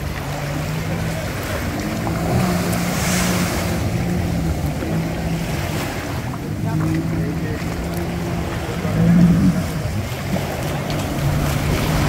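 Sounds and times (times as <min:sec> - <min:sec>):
outboard motor humming: 0:00.0 - 0:12.0
waves washing in shallows: 0:00.0 - 0:12.0.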